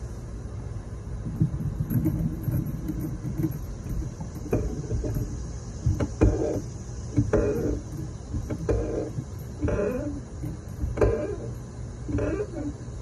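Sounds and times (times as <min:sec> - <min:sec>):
steady low rumble: 0:00.0 - 0:12.2
sharp knocks and squeaks: 0:01.3 - 0:12.8
swing chains clinking and creaking: 0:01.4 - 0:12.8.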